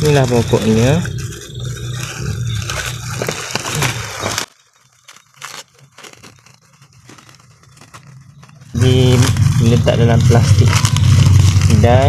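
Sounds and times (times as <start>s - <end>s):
faint crinkles and clicks: 0.0s - 11.9s
plastic packaging crinkling: 0.0s - 12.0s.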